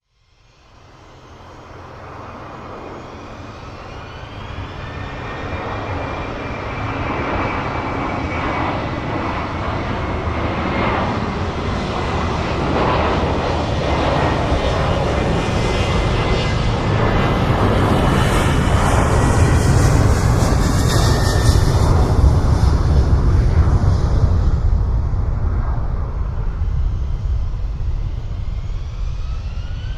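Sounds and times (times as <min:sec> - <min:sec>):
airliner engines rumbling and whining: 0:00.1 - 0:29.9.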